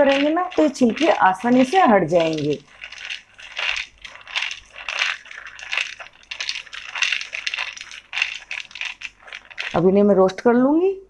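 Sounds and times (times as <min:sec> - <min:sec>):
peanuts clattering in a dish: 0:00.0 - 0:10.4.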